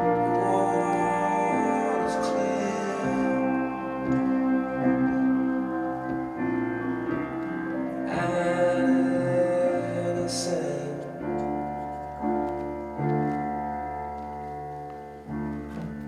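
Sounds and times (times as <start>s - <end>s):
person singing: 0.0s - 13.3s
sustained chords: 0.0s - 16.0s.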